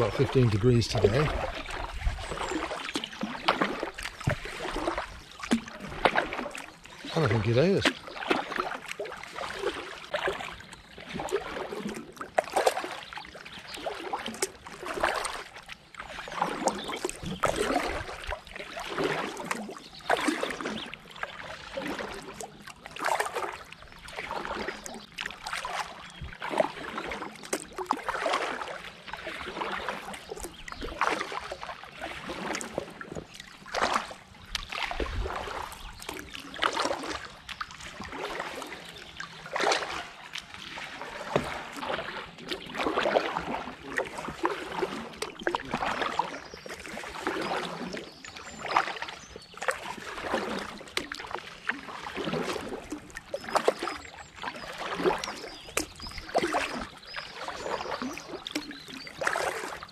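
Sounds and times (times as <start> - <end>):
kayak paddle strokes in water: 0.0 - 59.9.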